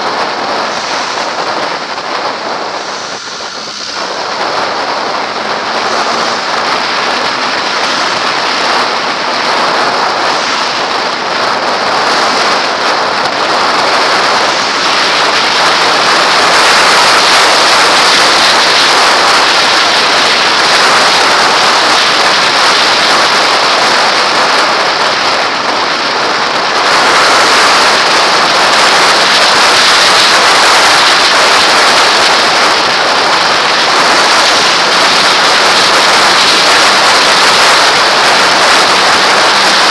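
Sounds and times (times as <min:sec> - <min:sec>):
wind roar: 0:00.0 - 0:39.9.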